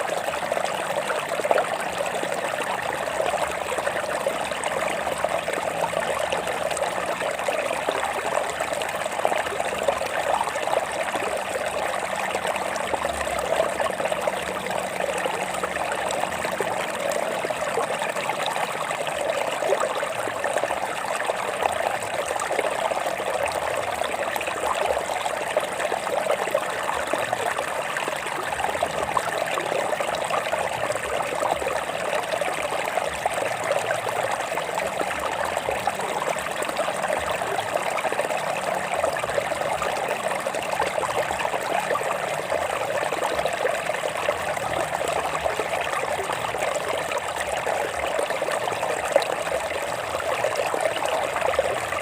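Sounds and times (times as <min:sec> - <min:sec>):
stream trickling over rocks: 0:00.0 - 0:52.0.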